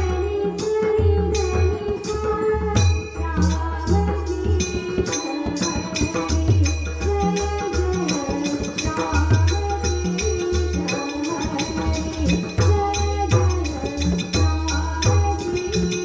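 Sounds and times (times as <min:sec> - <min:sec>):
small cymbals jingling: 0:00.0 - 0:16.0.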